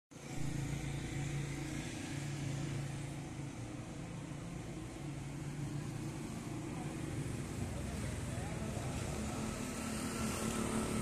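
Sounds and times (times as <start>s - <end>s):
street noise: 0.1s - 11.0s
low engine hum: 0.2s - 11.0s.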